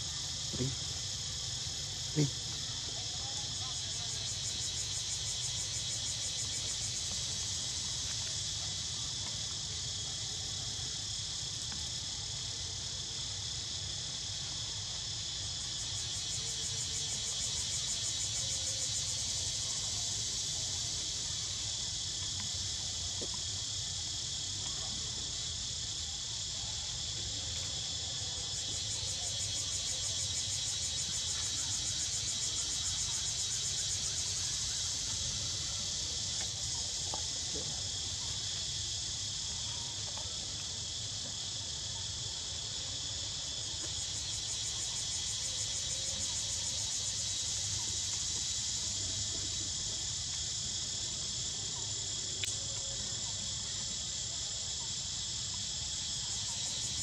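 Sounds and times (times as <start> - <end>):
high-pitched insect chorus trilling: 0.0 - 57.0.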